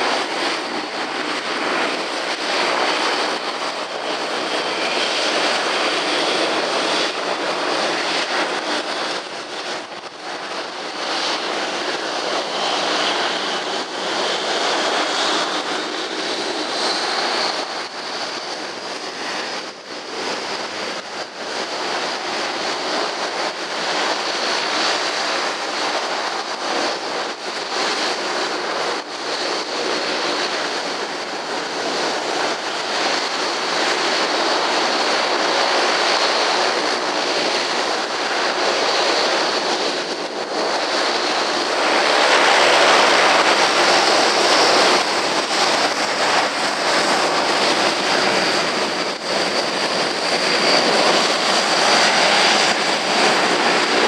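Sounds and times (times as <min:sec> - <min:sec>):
jet engines whining: 0:00.0 - 0:54.0
turboprop engines humming: 0:00.0 - 0:54.0
wind buffeting microphone: 0:00.0 - 0:54.0.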